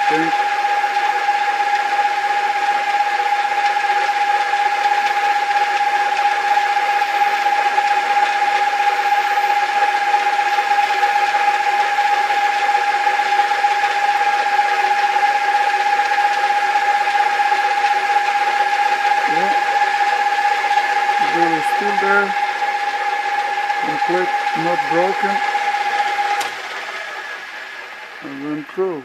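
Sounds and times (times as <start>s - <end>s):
metal lathe running: 0.0s - 29.0s.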